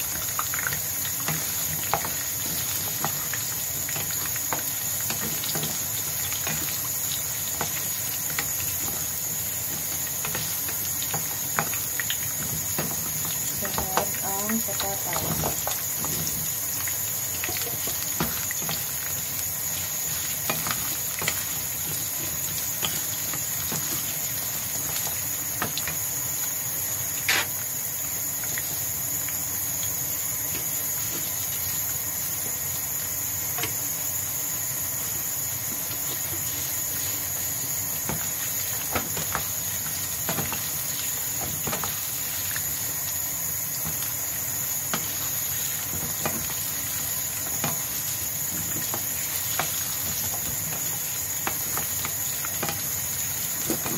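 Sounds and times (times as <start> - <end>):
vegetables sizzling in hot oil: 0.0 - 53.9.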